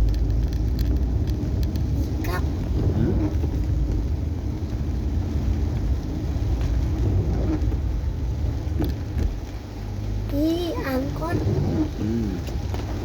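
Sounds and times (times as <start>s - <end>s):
car cabin road rumble: 0.0s - 13.0s
heavy rain on car: 0.0s - 13.0s.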